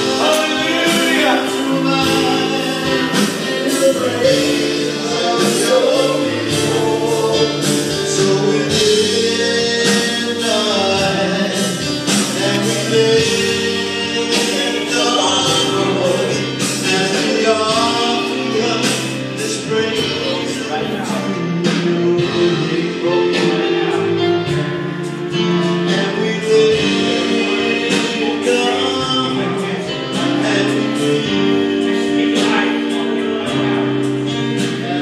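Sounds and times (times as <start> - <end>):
band playing: 0.0 - 35.0
people singing gospel: 0.0 - 35.0.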